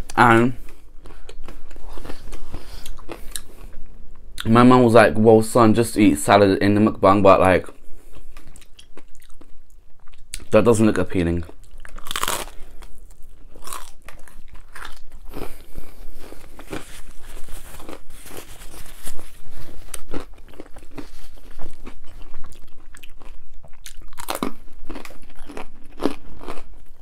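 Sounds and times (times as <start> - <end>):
chewing crunchy pizza crust: 0.0 - 4.5, 7.7 - 10.6, 11.3 - 27.0.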